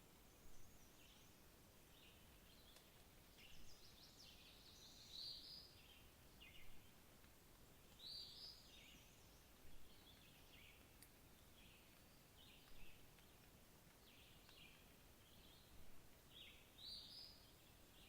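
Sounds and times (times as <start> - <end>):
background hiss: 0.0 - 18.0
faint songbird song: 0.0 - 18.0.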